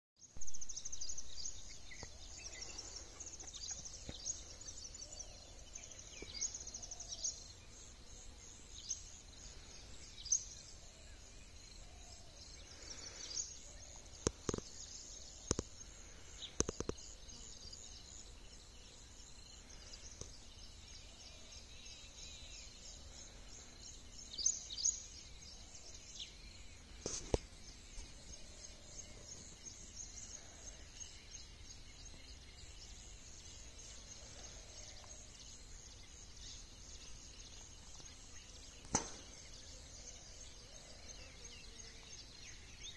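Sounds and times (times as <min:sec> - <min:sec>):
small birds chirping: 0:00.2 - 0:42.9
high-pitched hiss: 0:00.4 - 0:42.9.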